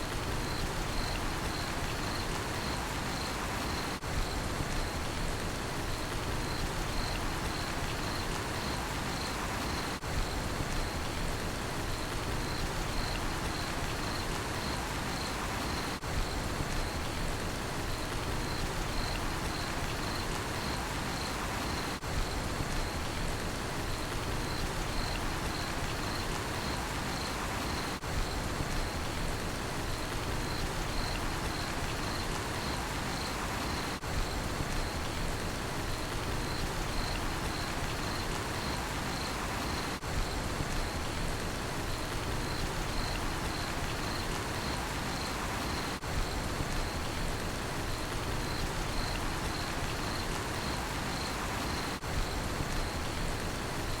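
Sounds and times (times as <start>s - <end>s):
steady rainfall: 0.0s - 54.0s
cricket chirping: 0.2s - 5.1s, 5.9s - 11.2s, 12.0s - 17.2s, 17.8s - 23.1s, 23.9s - 29.2s, 30.0s - 35.2s, 35.9s - 40.2s, 41.8s - 54.0s.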